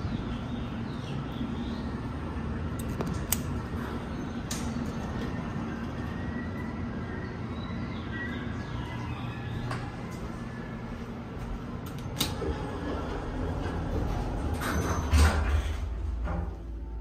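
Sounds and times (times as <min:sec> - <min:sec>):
elevator doors sliding open: 0:00.0 - 0:17.0
steady low hum: 0:00.0 - 0:17.0.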